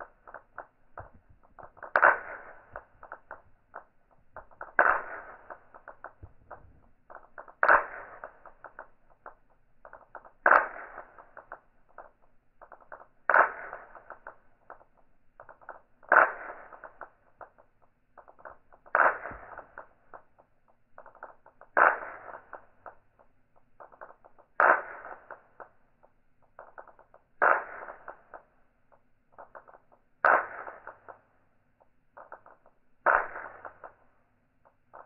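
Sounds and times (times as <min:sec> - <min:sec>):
steel balls clacking: 0:00.0 - 0:28.5, 0:32.2 - 0:34.1.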